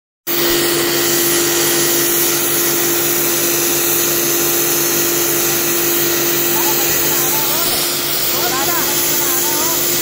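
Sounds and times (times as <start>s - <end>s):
cutting torch hissing: 0.3s - 10.0s
steady tone: 0.3s - 10.0s.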